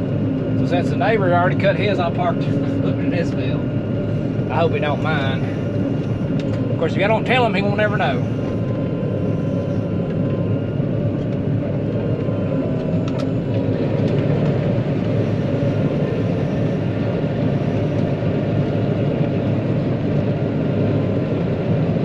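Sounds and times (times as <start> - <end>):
combine harvester engine drone: 0.0 - 22.0
faint high whine: 0.0 - 22.0.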